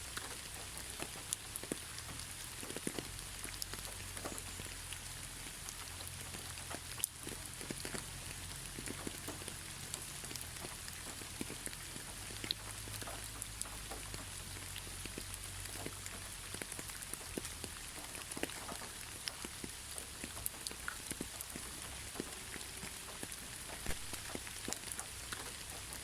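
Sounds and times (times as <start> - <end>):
rain hissing: 0.0 - 26.0
raindrops ticking on hard surface: 0.0 - 26.0.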